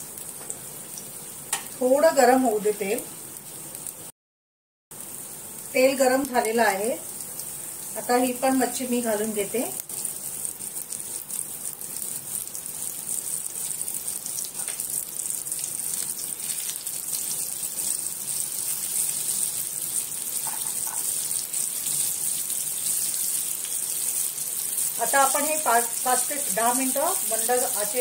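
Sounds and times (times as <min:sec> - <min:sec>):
fish sizzling in hot oil: 0:00.0 - 0:04.1, 0:05.0 - 0:28.0.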